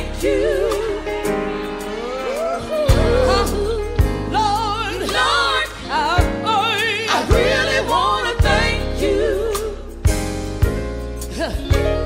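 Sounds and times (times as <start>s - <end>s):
gospel singing with band: 0.0s - 12.0s.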